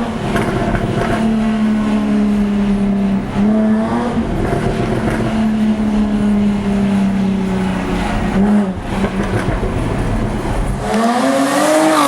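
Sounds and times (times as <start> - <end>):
car engine running: 0.0 - 10.9.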